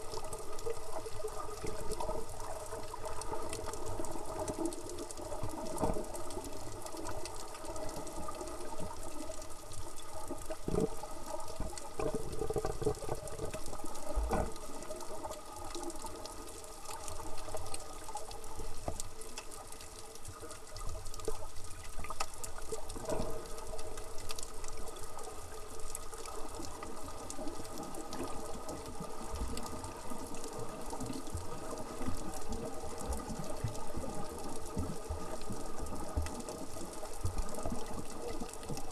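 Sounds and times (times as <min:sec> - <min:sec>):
droning hum underwater: 0:00.0 - 0:38.9
water crackle: 0:00.0 - 0:38.9.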